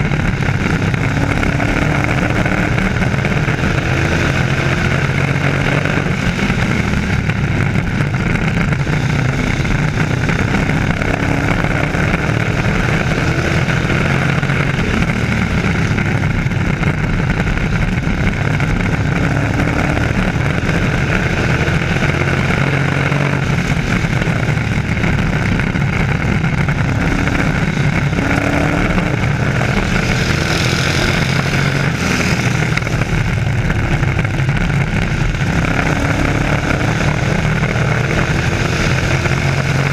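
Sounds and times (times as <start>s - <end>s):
race truck engines droning: 0.0s - 39.9s.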